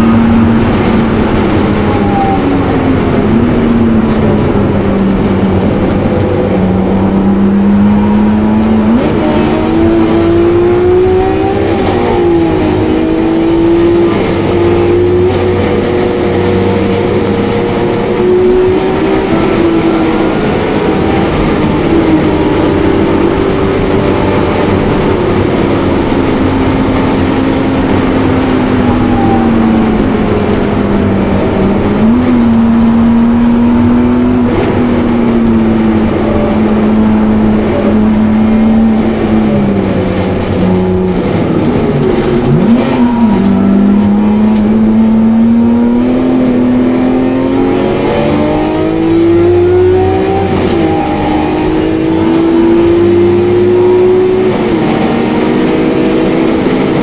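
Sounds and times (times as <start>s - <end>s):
car engine revving hard: 0.0s - 57.0s.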